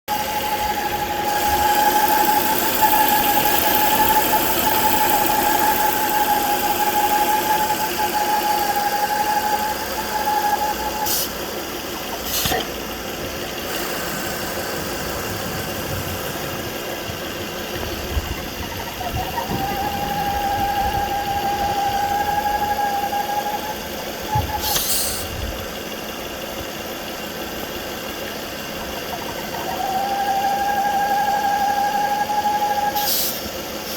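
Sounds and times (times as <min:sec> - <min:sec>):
engine idling with high-pitched howl: 0:00.0 - 0:33.9.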